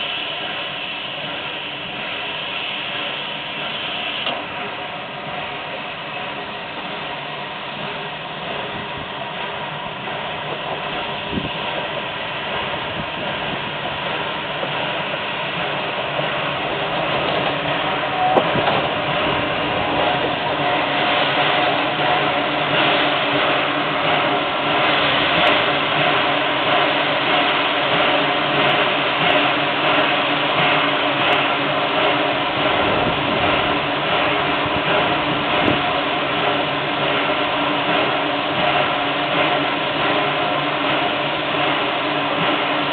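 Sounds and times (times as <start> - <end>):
steam locomotive running: 0.0 - 42.9.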